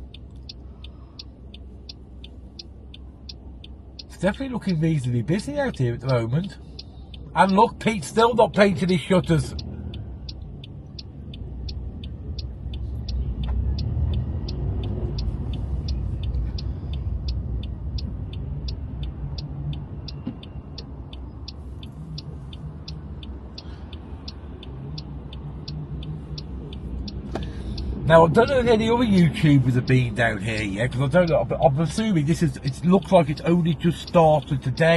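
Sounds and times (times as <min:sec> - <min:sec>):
car engine and road rumble: 0:00.0 - 0:34.9
turn indicator ticking: 0:00.0 - 0:34.9.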